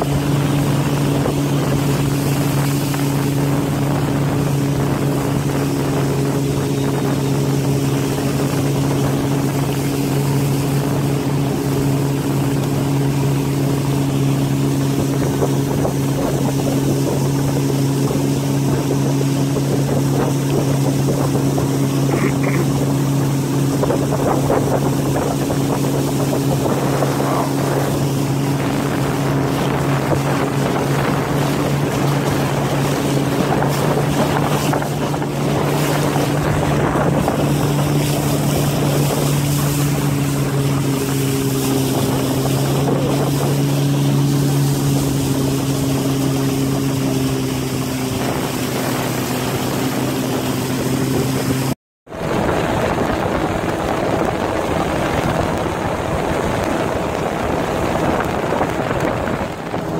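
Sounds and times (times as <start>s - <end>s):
outboard motor running: 0.0s - 59.9s
water rushing past hull: 0.0s - 59.9s.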